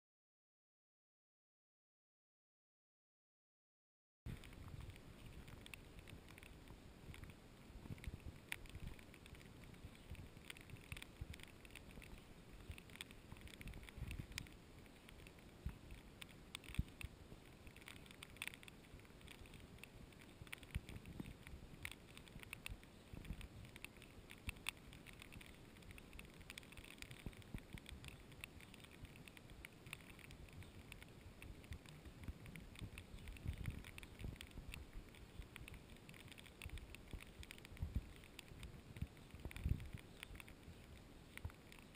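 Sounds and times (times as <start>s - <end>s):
raindrops ticking on camera: 4.3s - 41.9s
wind rumble on microphone: 4.3s - 41.9s.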